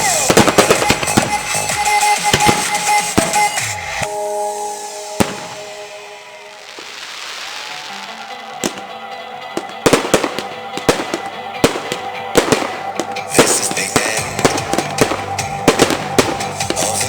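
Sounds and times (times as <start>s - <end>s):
fireworks banging: 0.0s - 17.0s
fireworks crackling: 0.0s - 17.0s
music playing: 0.0s - 17.0s.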